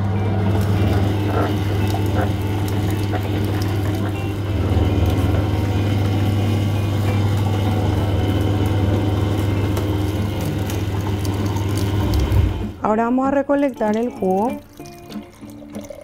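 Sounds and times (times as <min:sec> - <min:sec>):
motor hum: 0:00.0 - 0:12.9.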